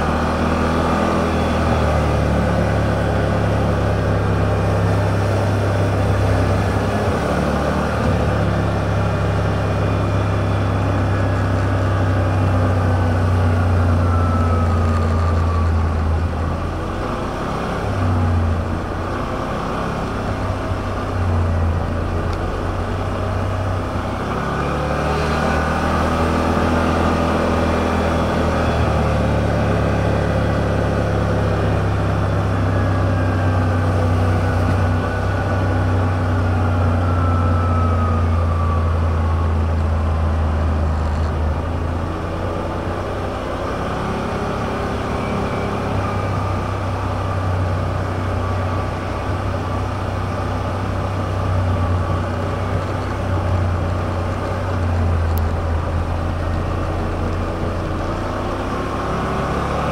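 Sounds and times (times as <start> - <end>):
utility vehicle engine droning: 0.0 - 59.9.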